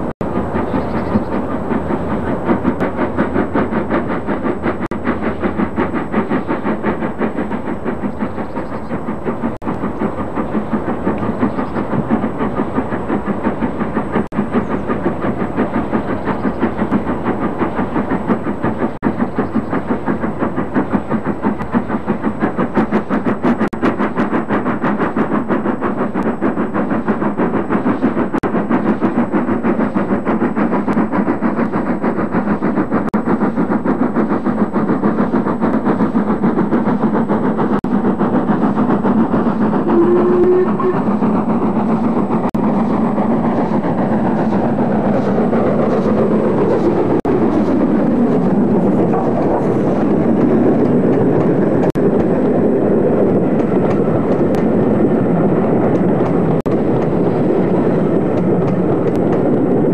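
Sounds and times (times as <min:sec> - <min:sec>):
steam locomotive exhaust beating: 0:00.0 - 0:59.9.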